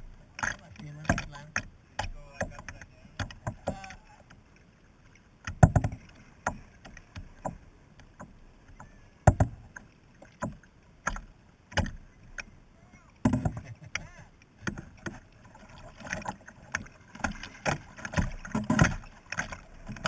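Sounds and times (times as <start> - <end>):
paddle knocking kayak hull: 0.0 - 4.4, 5.4 - 20.0
paddle splashing in water: 0.0 - 20.0.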